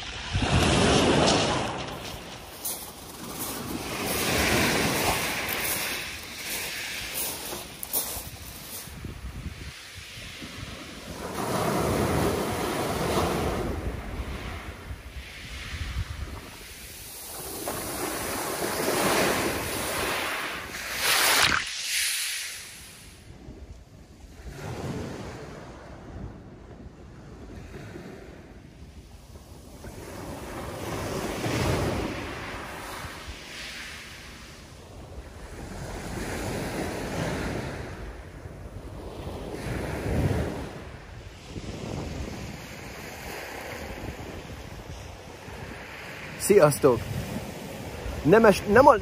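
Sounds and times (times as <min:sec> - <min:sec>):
waves washing on shingle beach: 0:00.0 - 0:23.4, 0:28.9 - 0:49.0
wind rumbling on microphone: 0:00.0 - 0:49.0.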